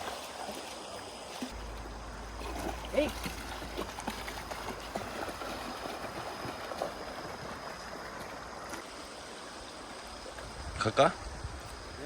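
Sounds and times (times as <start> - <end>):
small water splashes: 0.0 - 10.6
stream flowing: 0.0 - 12.0.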